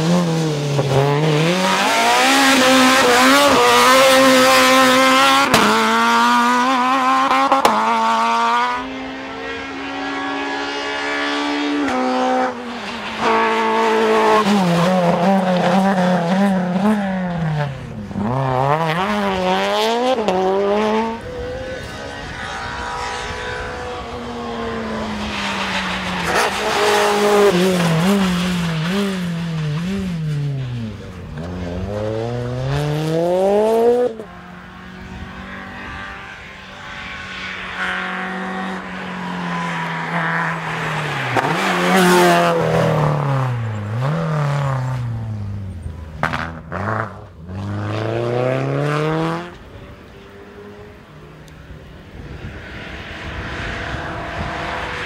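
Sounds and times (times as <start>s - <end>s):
rally car engines revving hard: 0.0s - 55.0s.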